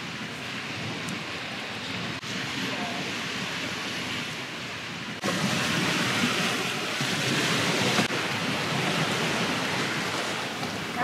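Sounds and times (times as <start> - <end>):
rushing wind and water: 0.0 - 11.0.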